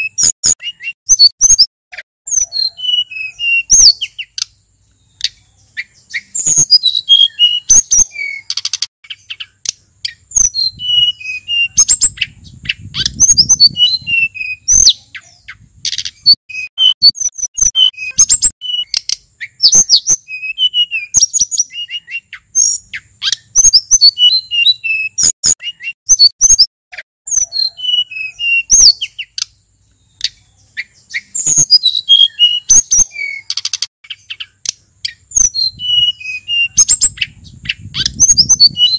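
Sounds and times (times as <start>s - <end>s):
songbird singing chirps and whistles: 0.0s - 1.7s, 2.3s - 26.7s, 27.3s - 38.9s.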